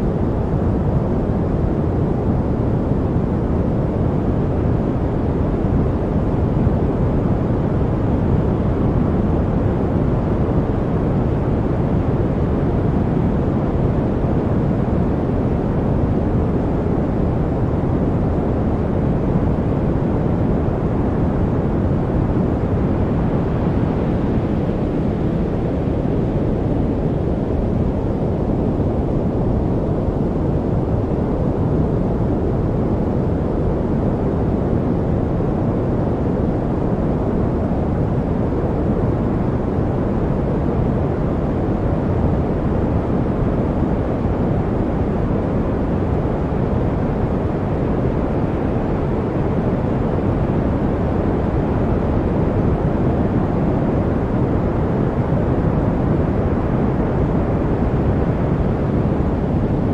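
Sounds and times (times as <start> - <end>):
steady low-pitched noise: 0.0 - 59.9.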